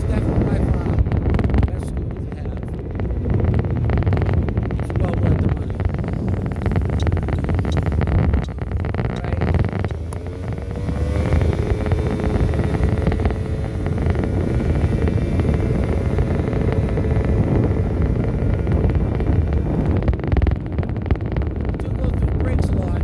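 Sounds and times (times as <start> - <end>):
scooter engine running: 0.0 - 23.0
wind rumble on microphone: 0.0 - 23.0.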